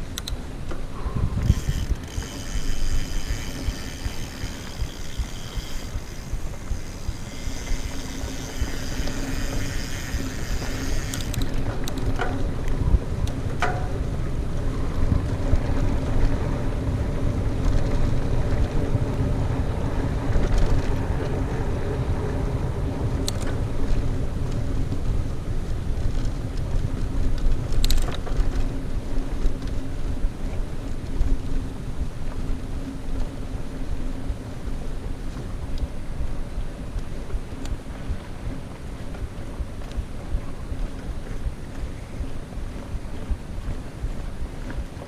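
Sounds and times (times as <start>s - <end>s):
bike tyre rumble: 0.0s - 45.0s
wind rush on microphone: 0.0s - 45.0s.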